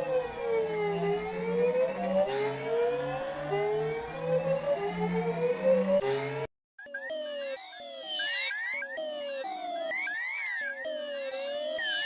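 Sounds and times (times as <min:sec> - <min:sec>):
rising alarm tone sweeps: 0:00.0 - 0:12.0.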